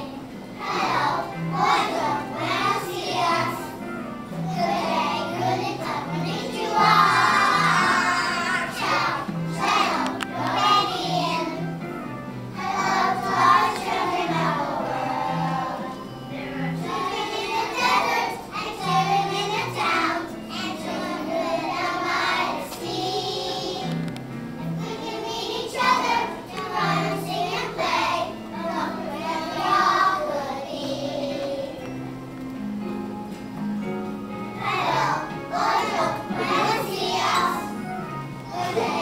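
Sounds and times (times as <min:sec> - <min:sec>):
children singing in chorus: 0:00.0 - 0:03.8, 0:04.5 - 0:11.6, 0:12.6 - 0:16.2, 0:16.8 - 0:24.0, 0:24.8 - 0:31.8, 0:34.6 - 0:37.8, 0:38.5 - 0:39.0
musical accompaniment with low notes: 0:00.0 - 0:39.0.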